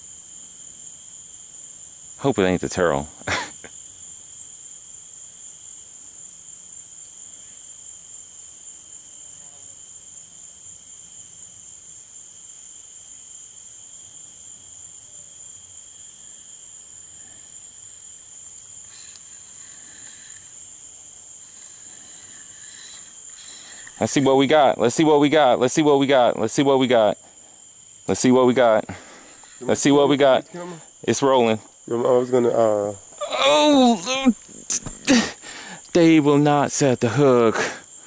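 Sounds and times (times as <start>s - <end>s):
high-pitched insect drone: 0.0s - 38.0s
lower insect drone: 0.0s - 38.0s.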